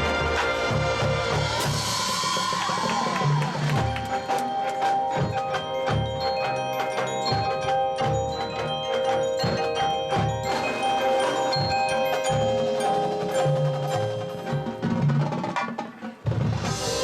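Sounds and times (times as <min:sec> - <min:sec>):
mallet percussion: 0:00.0 - 0:17.0
marching band music: 0:00.0 - 0:17.0.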